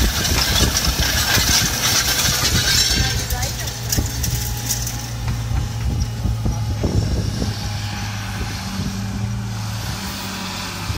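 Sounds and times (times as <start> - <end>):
tractor diesel engine running: 0.0 - 10.9.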